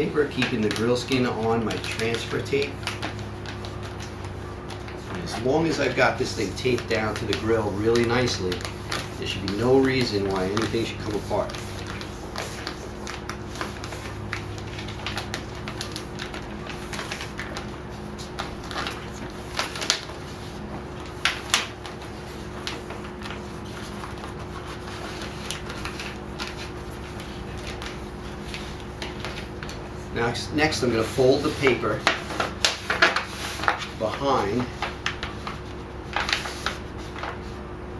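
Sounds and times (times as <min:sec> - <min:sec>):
paper crackling and rustling: 0:00.0 - 0:37.9
steady low hum: 0:00.0 - 0:37.9.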